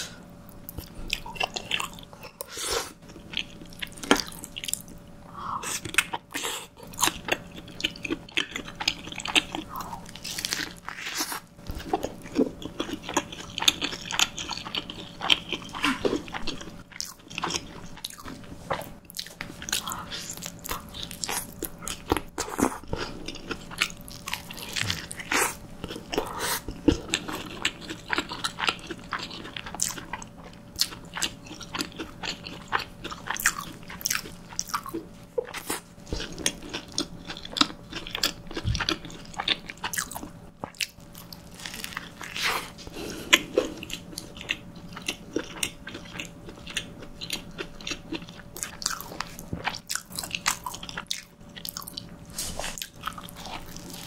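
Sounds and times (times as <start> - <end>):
close-miked chewing: 0.5 - 5.0, 5.6 - 54.0.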